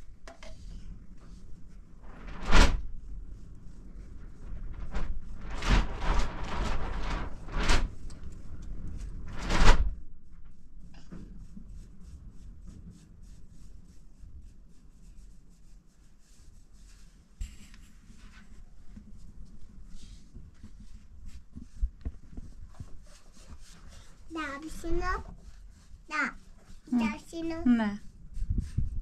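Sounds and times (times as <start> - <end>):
paintbrush scrubbing on metal: 0.0 - 9.2, 10.0 - 29.0.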